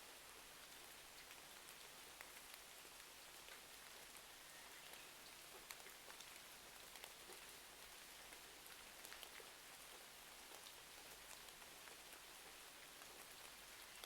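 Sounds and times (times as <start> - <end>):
steady rain: 0.0 - 14.0
crackling fireplace: 0.6 - 14.0.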